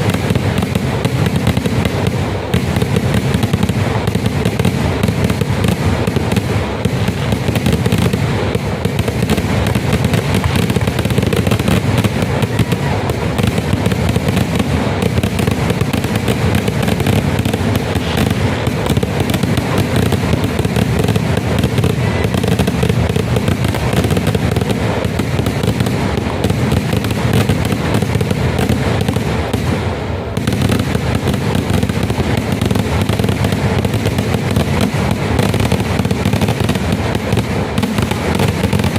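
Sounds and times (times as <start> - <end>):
firecrackers exploding: 0.0 - 38.9.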